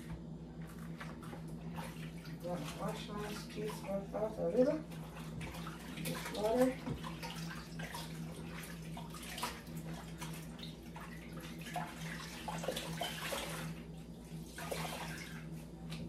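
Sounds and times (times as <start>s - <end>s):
water sloshing and dripping: 0.0s - 16.0s.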